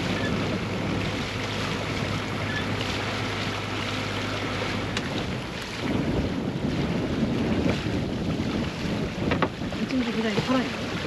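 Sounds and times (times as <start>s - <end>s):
boat engine droning: 0.0s - 11.0s
water rushing alongside boat: 0.0s - 11.0s
wind buffeting microphone: 0.0s - 11.0s.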